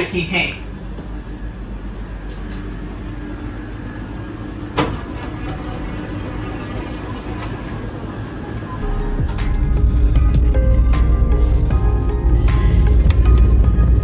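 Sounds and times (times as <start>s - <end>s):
train coach hum and rumble: 0.0s - 14.0s.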